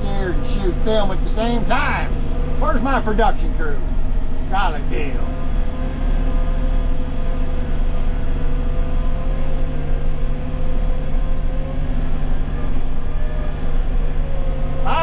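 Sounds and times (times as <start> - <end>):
backhoe engine running: 0.0 - 15.0.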